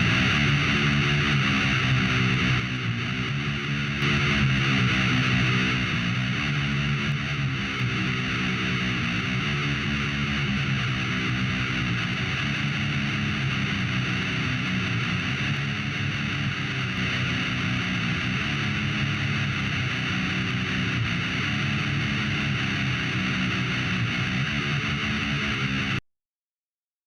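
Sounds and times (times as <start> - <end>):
heavy metal music: 0.0 - 26.0.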